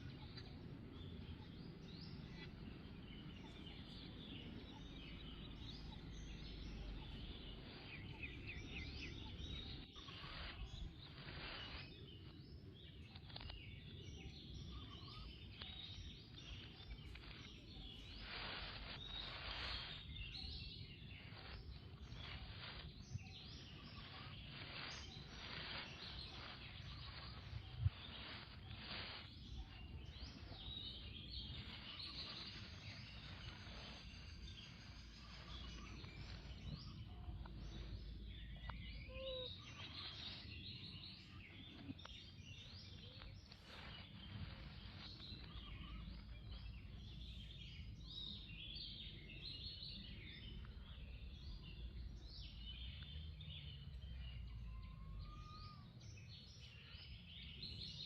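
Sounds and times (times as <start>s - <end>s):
high bird chirps: 0.0s - 51.9s.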